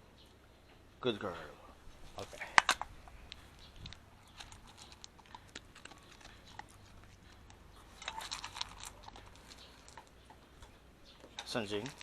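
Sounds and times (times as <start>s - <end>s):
dog chewing dry food: 2.2s - 12.0s.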